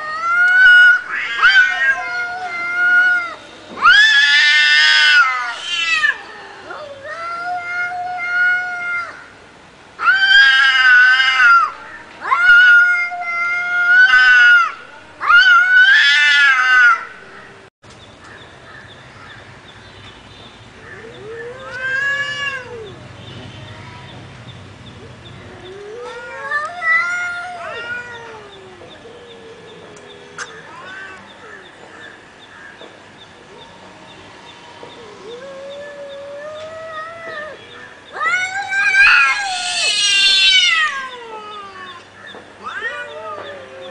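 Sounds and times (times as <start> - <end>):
cats yowling: 0.0 - 9.3, 10.0 - 17.1, 20.9 - 23.0, 25.4 - 32.2, 33.5 - 43.9.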